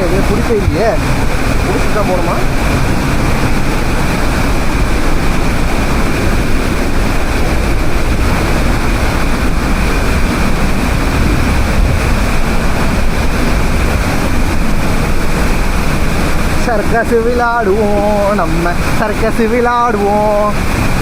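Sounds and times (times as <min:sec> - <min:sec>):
waterfall roaring: 0:00.0 - 0:21.0
wind rumbling on microphone: 0:00.0 - 0:21.0.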